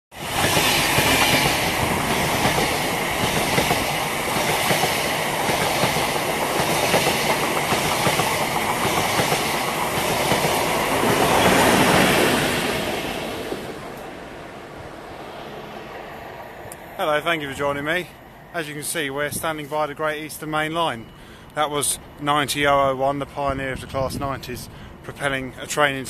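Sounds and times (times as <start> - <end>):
train passing at speed: 0.1 - 26.0.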